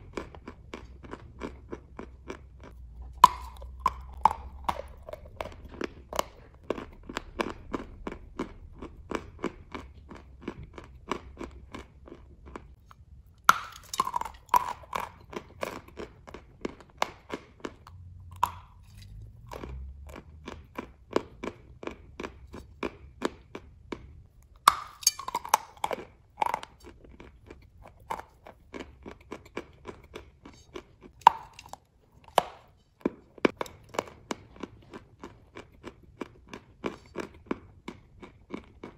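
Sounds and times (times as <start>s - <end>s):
chewing chalk crunches: 0.0s - 38.9s.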